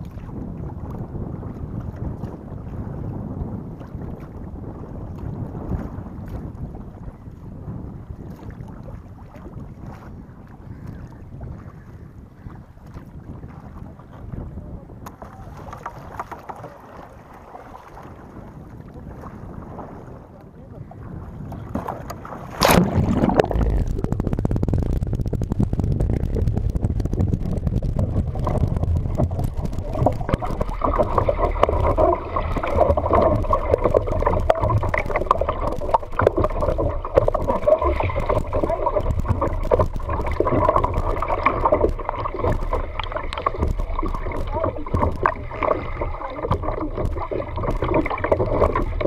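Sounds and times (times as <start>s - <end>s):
water noise around kayak: 0.0s - 49.0s
wind noise: 0.0s - 49.0s.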